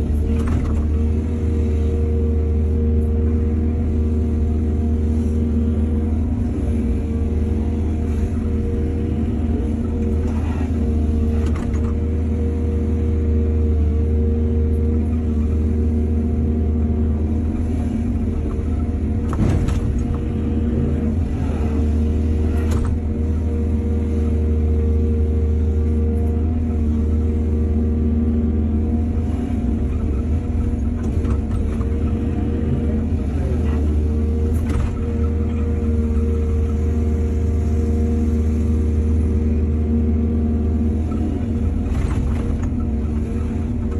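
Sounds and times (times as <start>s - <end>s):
excavator diesel engine: 0.0s - 43.9s.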